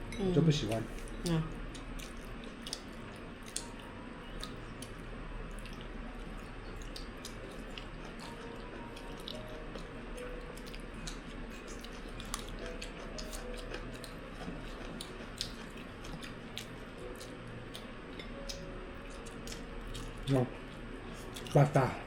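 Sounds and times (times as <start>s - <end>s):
low steady hum: 0.0s - 22.0s
chewing: 0.8s - 21.9s.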